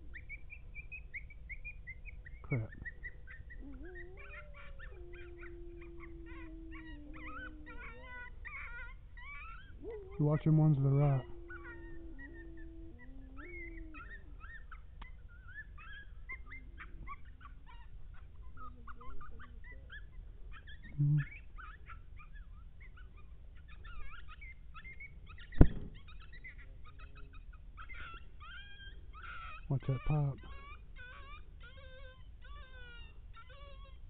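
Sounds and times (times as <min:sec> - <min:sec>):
coyotes yipping and howling: 0:00.0 - 0:34.0.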